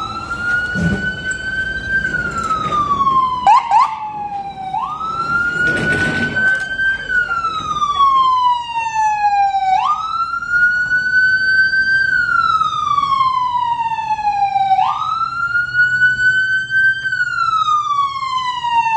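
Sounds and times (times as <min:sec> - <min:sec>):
emergency vehicle siren wailing: 0:00.0 - 0:18.9.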